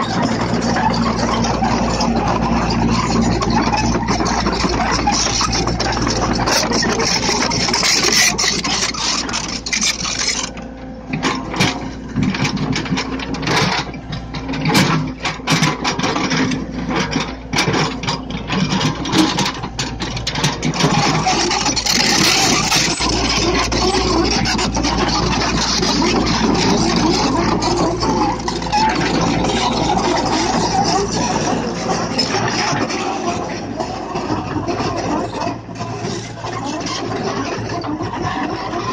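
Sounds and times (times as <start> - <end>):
diesel engine humming and clattering: 0.0 - 38.9.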